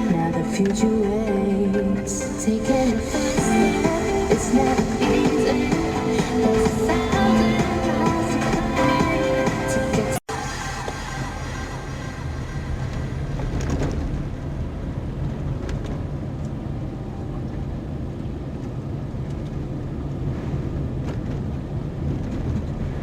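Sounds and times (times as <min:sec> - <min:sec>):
car tyres and engine rumble: 0:00.0 - 0:23.0.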